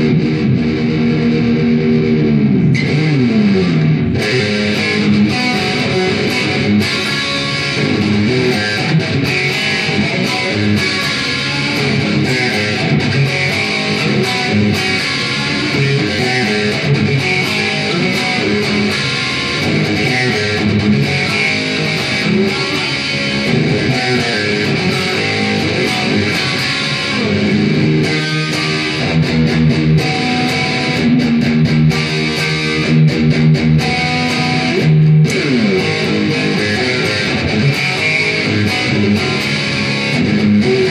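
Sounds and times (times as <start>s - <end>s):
electric guitar riffs with reverb: 0.0s - 40.9s.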